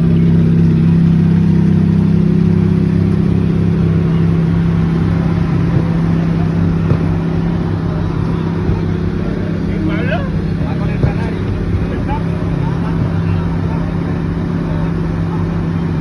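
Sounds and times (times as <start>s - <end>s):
car engine running steadily: 0.0s - 16.0s.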